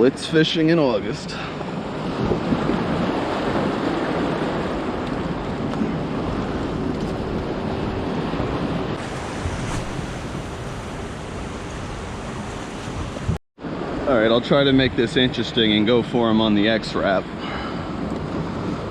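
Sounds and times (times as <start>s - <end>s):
surf washing onto beach: 0.0s - 18.9s
wind blowing across microphone: 0.0s - 18.9s.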